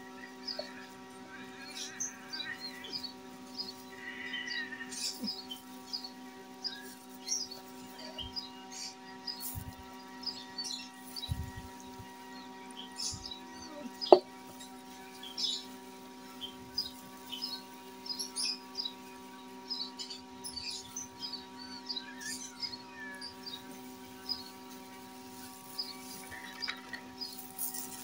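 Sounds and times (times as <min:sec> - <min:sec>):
small birds chirping: 0:00.0 - 0:28.0
steady low hum: 0:00.0 - 0:28.0.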